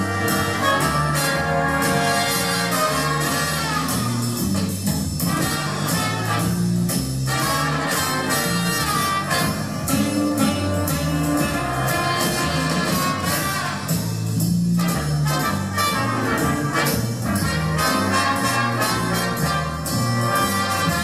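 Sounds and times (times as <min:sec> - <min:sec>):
dance music with brass: 0:00.0 - 0:21.0.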